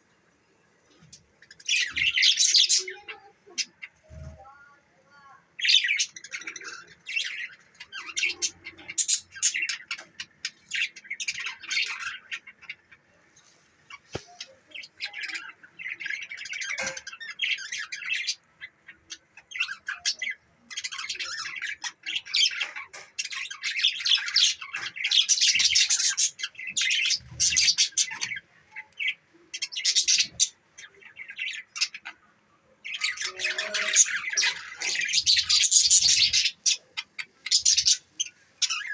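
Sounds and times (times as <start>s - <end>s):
budgerigars chirping and squawking: 0.9s - 4.5s, 5.5s - 38.9s.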